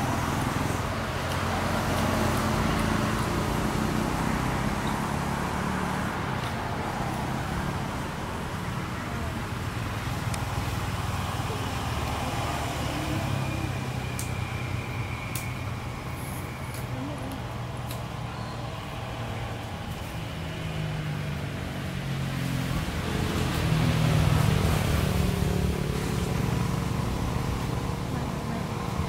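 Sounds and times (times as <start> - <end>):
low rumble of distant traffic: 0.0 - 29.0.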